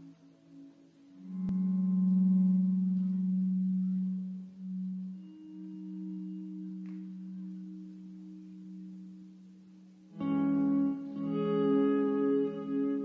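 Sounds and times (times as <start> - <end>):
low drone tone: 0.0 - 13.0.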